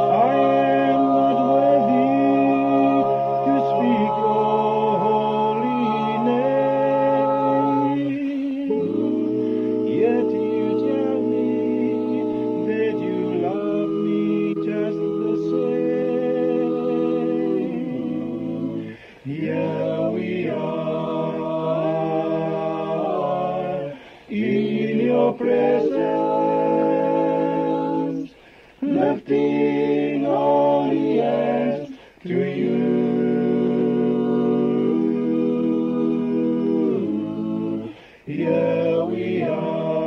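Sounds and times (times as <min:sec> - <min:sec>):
male vocal group singing: 0:00.0 - 0:40.0.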